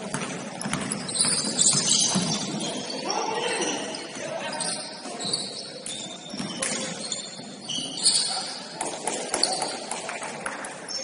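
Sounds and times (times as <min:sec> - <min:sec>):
shoes squeaking on hardwood court: 0:00.0 - 0:10.0.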